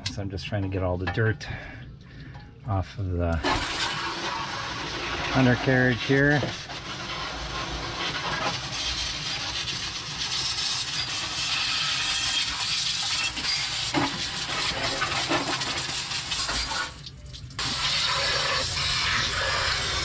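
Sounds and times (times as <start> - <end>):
water spraying on car underside: 3.4 - 20.0.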